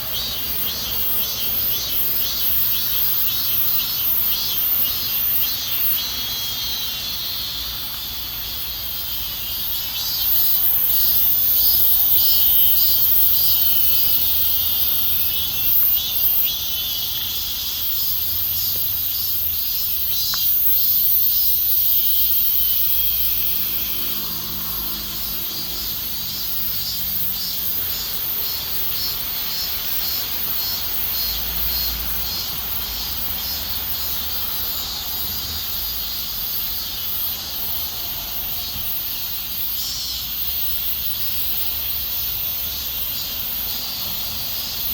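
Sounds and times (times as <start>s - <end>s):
cicadas buzzing: 0.0s - 44.9s
high hiss: 0.0s - 44.9s.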